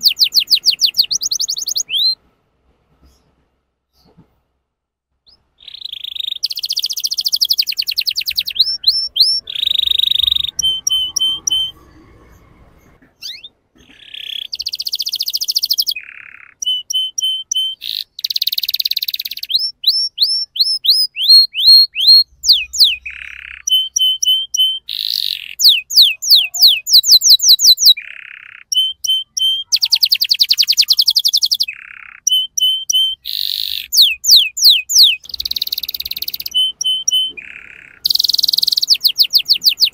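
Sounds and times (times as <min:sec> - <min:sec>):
canary singing trills: 0:00.0 - 0:02.2, 0:05.2 - 0:39.9.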